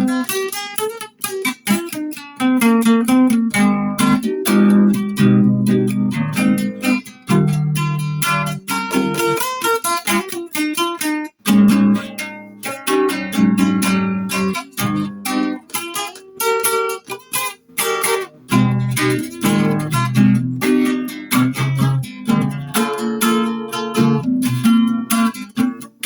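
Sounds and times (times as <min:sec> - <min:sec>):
guitar playing: 0:00.0 - 0:26.0.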